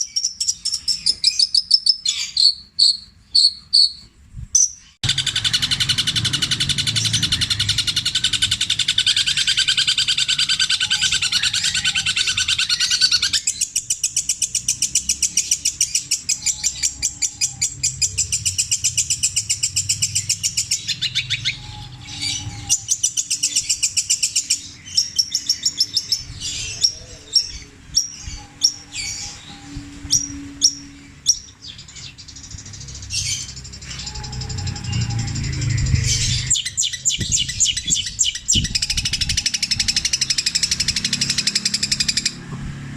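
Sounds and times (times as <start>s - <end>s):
shrike singing: 0.0s - 42.4s.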